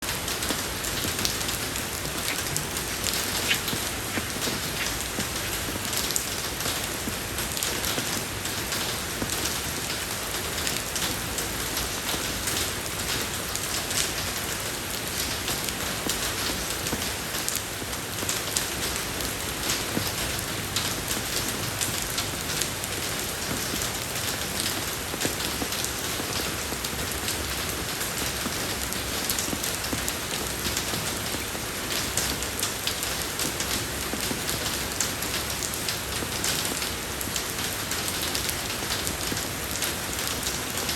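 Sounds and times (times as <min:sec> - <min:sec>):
rain falling on a road: 0:00.0 - 0:40.9.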